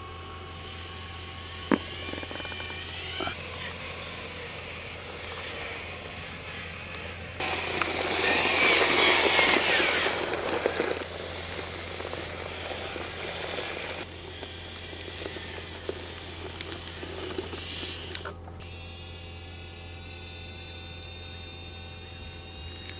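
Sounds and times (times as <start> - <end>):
toy truck motors whining: 0.0 - 22.9.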